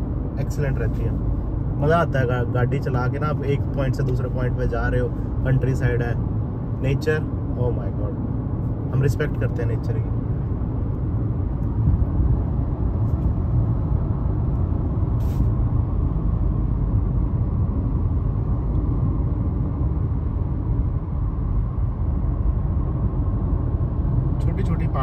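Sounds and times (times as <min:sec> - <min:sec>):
car cabin road rumble: 0:00.0 - 0:25.0.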